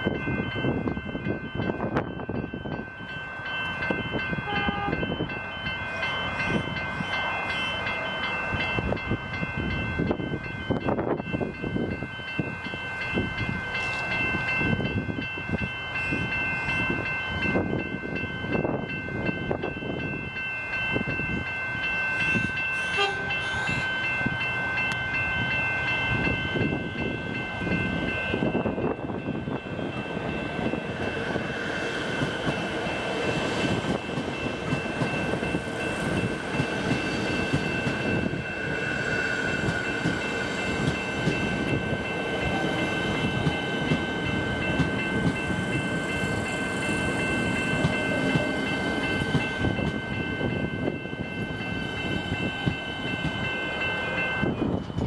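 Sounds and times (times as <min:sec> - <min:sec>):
electric train humming: 0:00.0 - 0:55.0
level crossing warning bells: 0:00.0 - 0:55.0.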